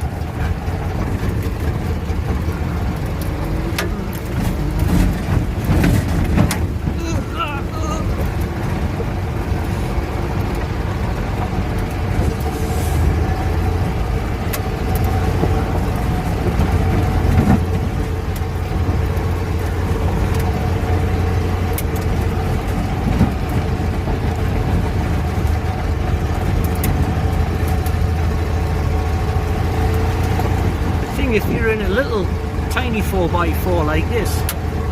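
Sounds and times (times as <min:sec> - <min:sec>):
vehicle engine running under load: 0:00.0 - 0:34.9.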